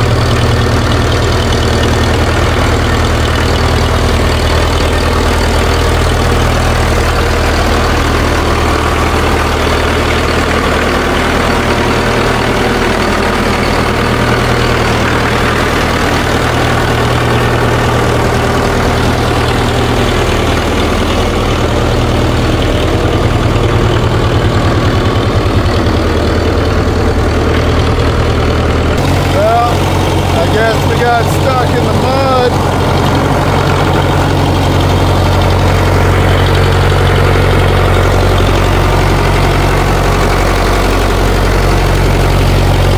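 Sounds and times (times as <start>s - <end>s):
tractor diesel engine idling: 0.0s - 42.9s.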